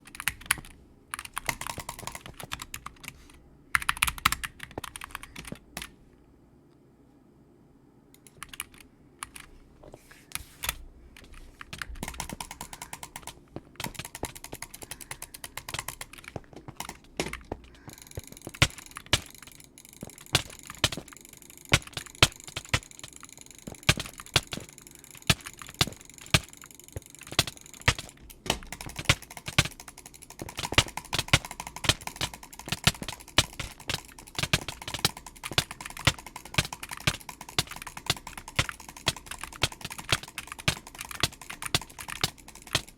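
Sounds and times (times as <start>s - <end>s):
computer mouse clicking: 0.0s - 6.0s, 8.1s - 9.5s, 10.3s - 42.9s.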